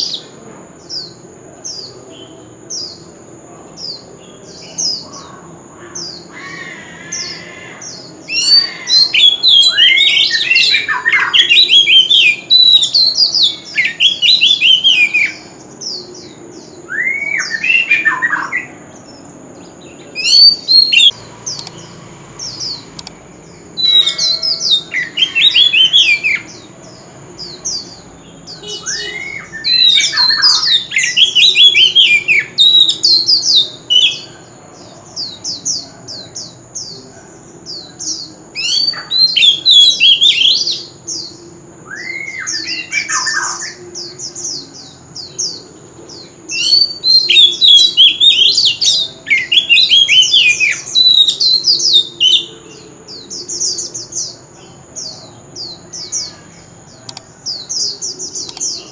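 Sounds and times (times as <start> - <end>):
bird singing whistled notes: 6.0 - 34.5, 37.7 - 58.9.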